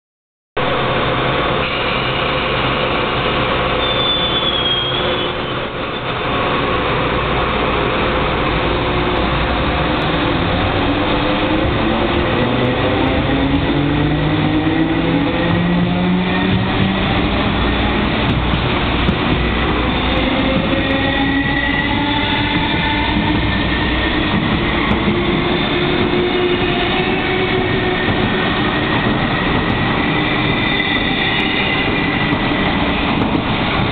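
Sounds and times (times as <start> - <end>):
electric train running on rails: 0.6 - 33.9.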